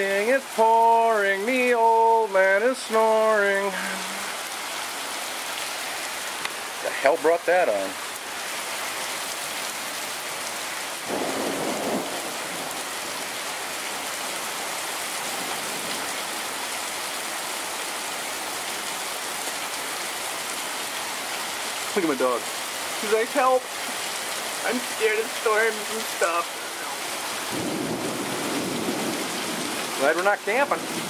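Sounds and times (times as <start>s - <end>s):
heavy rain on pavement: 0.0s - 31.0s.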